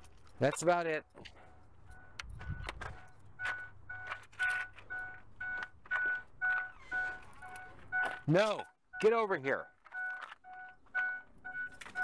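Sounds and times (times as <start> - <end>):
door-open warning chime: 1.4 - 12.0.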